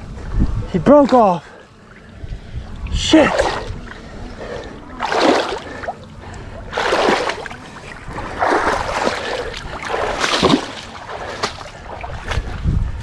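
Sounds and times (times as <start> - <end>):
legs splashing through water: 1.1 - 13.0.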